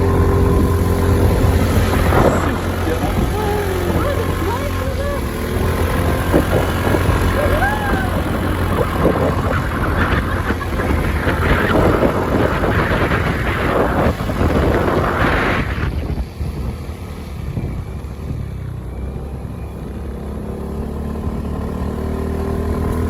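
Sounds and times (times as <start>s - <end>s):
wind gusts: 0.0s - 20.6s
vehicle engine low rumble: 0.0s - 23.0s.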